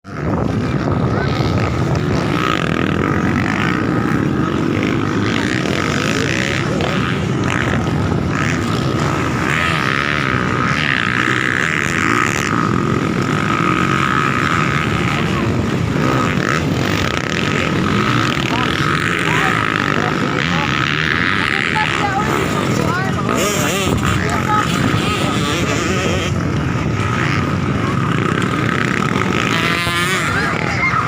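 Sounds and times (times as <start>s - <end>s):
dirt bike engines running: 0.0s - 31.0s.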